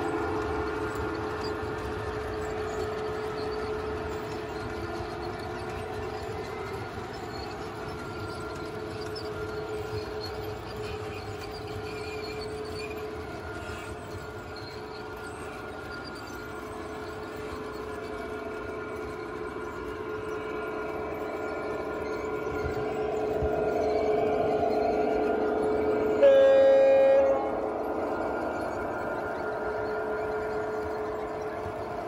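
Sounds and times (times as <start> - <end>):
model train wheels rolling: 0.0 - 32.0
steady motor hum: 0.0 - 32.0.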